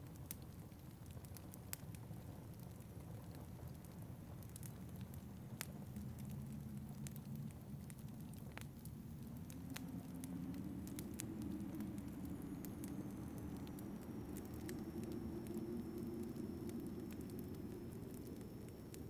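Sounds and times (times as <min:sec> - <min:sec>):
low howling wind: 0:00.0 - 0:19.0
wood fire crackling: 0:00.0 - 0:19.0.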